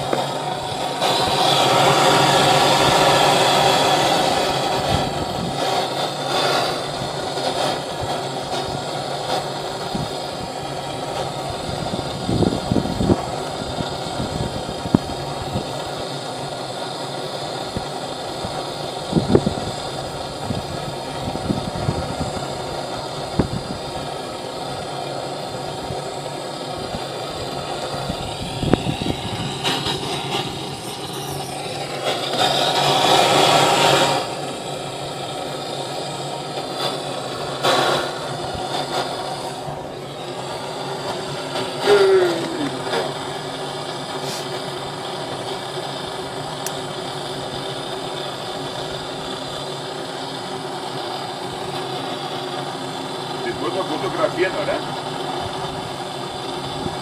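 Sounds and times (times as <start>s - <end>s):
blowtorch hissing: 0.0s - 57.0s
burning straw crackling: 0.0s - 57.0s.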